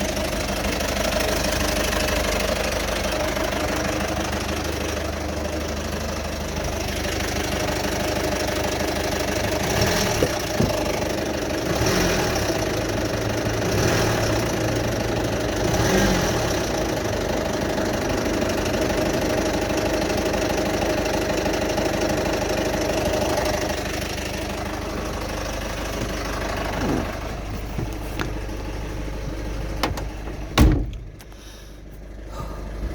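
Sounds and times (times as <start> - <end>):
diesel engine idling with knocking: 0.0 - 32.9.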